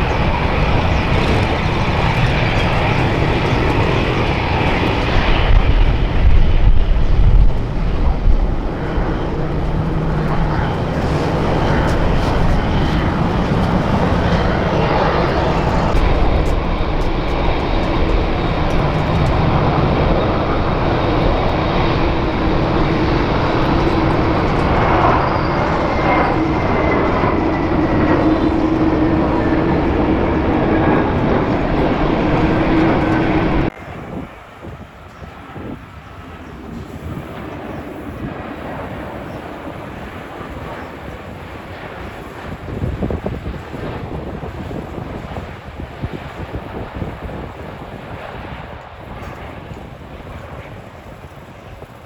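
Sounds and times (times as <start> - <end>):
jet engines with high whine: 0.0 - 52.0.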